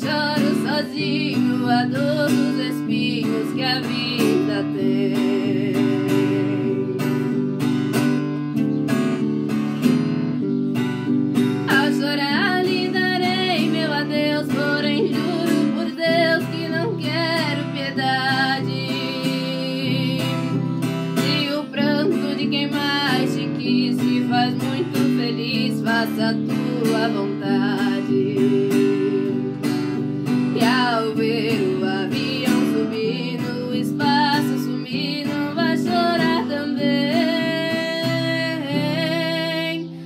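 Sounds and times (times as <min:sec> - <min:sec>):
woman singing: 0:00.0 - 0:07.8, 0:11.4 - 0:40.0
acoustic guitar strumming: 0:00.0 - 0:40.0.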